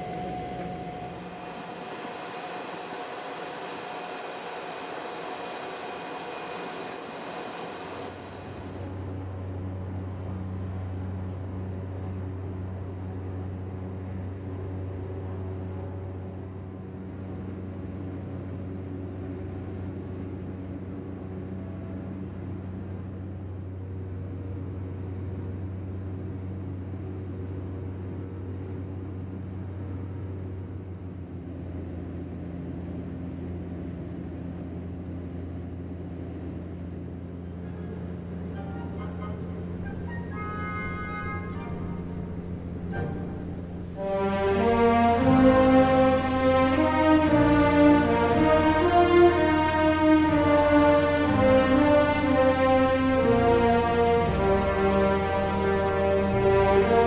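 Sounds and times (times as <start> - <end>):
propeller engine droning: 0.0 - 57.0.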